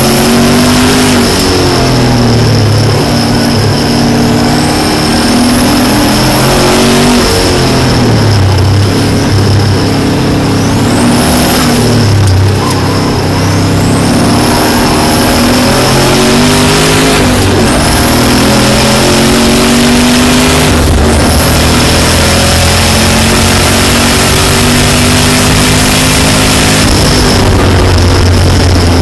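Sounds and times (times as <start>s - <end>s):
car engine revving through gears: 0.0s - 29.0s.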